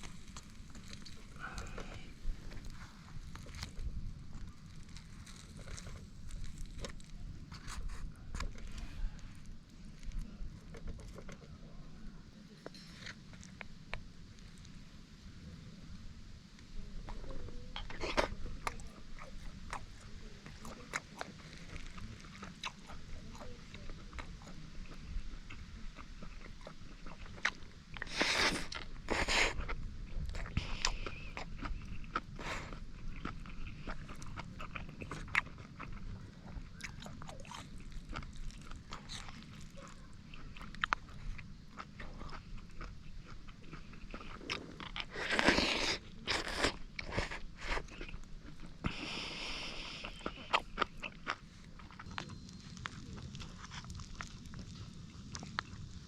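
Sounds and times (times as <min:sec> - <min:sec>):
person chewing and crunching food: 0:00.0 - 0:11.8, 0:17.0 - 0:56.0.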